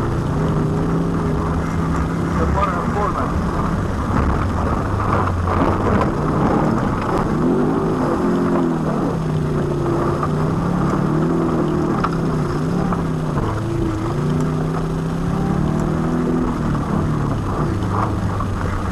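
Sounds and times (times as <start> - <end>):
loud road noise: 0.0 - 18.9
rally car engine revving: 0.0 - 18.9.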